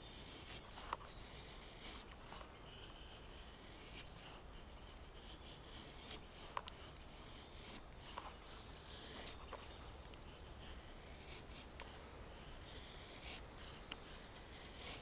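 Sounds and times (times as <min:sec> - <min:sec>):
knife scraping wooden stick: 0:00.0 - 0:15.0.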